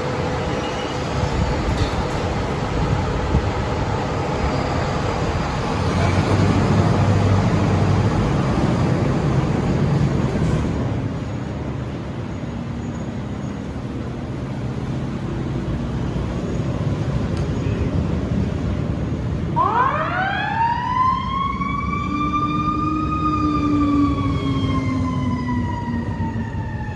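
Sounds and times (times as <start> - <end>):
fire engine diesel engine rumbling: 0.0 - 26.9.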